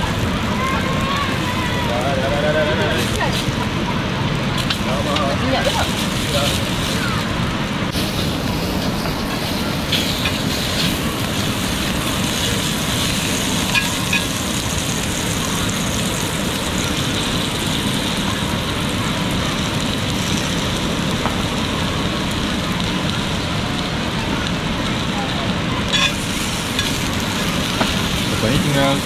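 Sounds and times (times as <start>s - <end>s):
sausages sizzling in oil: 0.0s - 29.0s
steady rushing noise: 0.0s - 29.0s.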